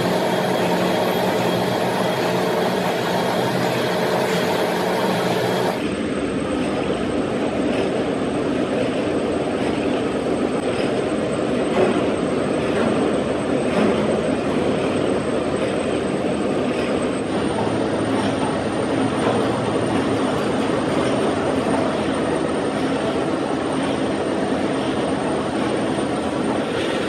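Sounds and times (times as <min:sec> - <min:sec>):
machine mechanical drone: 0:00.0 - 0:27.0.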